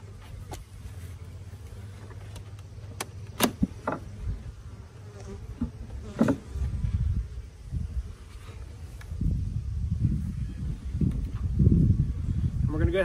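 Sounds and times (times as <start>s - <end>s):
honeybees buzzing: 0.0s - 12.7s.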